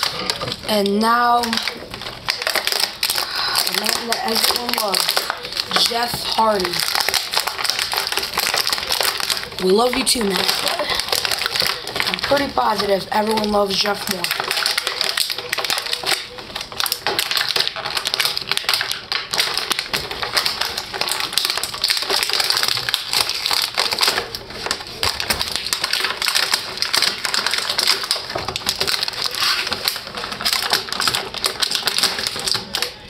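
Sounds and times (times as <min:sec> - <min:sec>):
plastic and cardboard crackling: 0:00.0 - 0:33.0.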